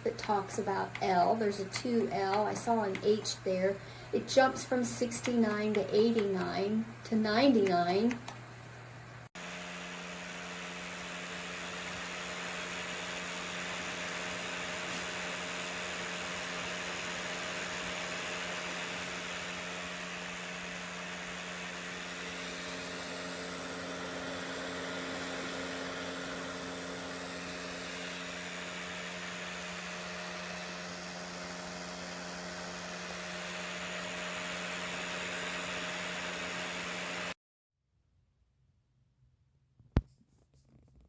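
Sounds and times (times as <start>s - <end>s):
electric motor hum: 0.0s - 37.4s
heater fan whirring: 0.0s - 37.4s.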